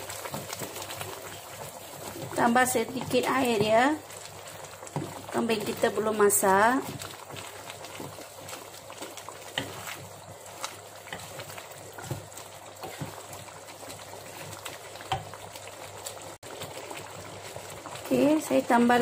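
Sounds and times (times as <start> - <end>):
soft pops of simmering gravy: 0.0 - 18.1
curry bubbling in a pot: 0.0 - 19.0.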